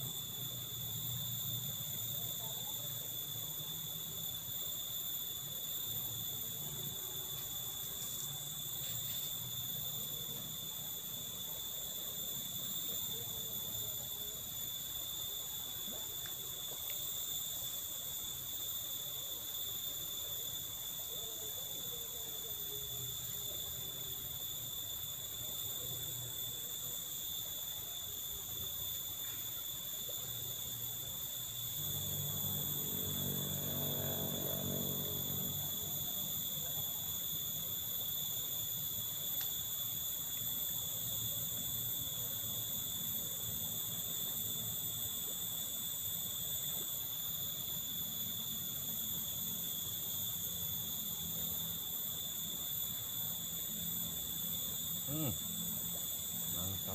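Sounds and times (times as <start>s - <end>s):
high-pitched insect drone: 0.0s - 56.9s.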